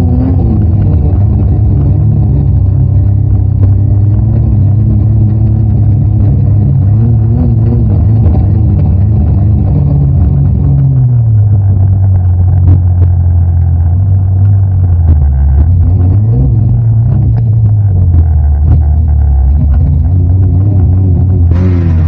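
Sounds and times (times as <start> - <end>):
snowmobile engine under load: 0.0 - 22.0.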